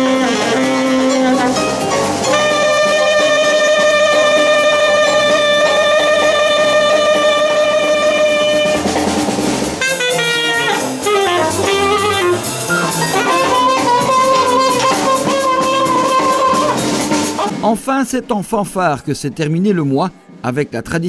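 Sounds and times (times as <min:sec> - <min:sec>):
saxophone playing: 0:00.0 - 0:09.2, 0:09.8 - 0:17.6
drum kit: 0:00.0 - 0:19.1.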